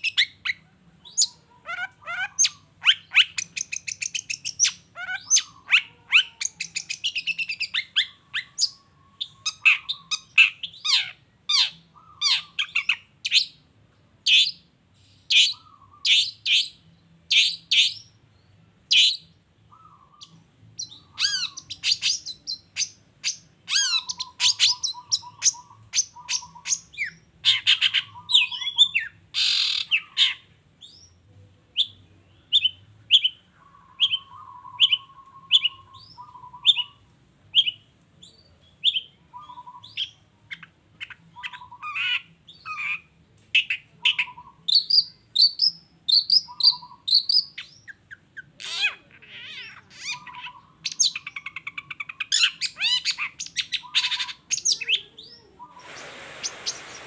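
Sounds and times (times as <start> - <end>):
harsh rasping bird calls: 0.0 - 13.6, 18.9 - 31.0, 31.8 - 37.8, 38.8 - 57.0.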